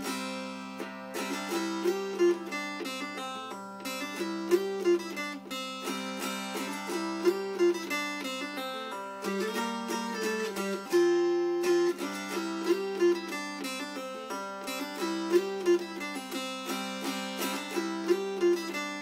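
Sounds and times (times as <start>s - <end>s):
strummed mountain dulcimer: 0.0s - 19.0s.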